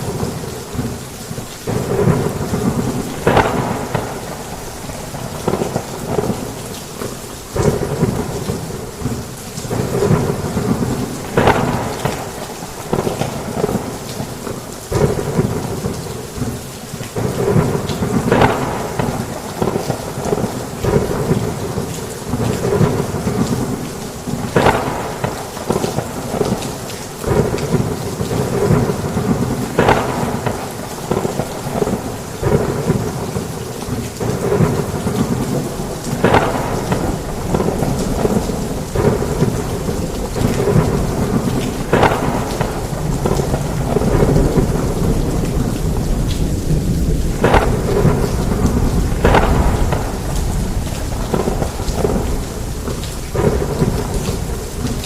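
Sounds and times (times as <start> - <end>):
heavy rain falling: 0.0 - 55.0
thunder rumbling: 0.0 - 55.0
sharp thunder cracks: 1.6 - 55.0.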